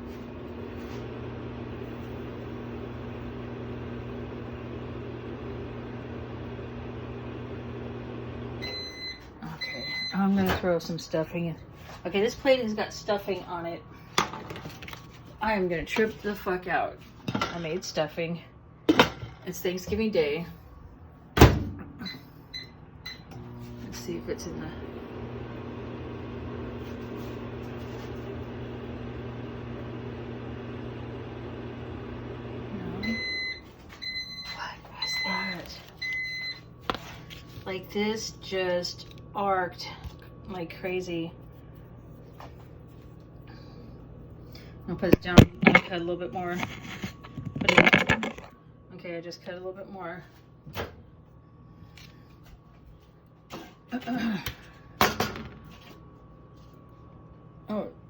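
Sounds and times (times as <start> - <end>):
microwave oven humming: 0.0 - 17.8, 18.5 - 58.0.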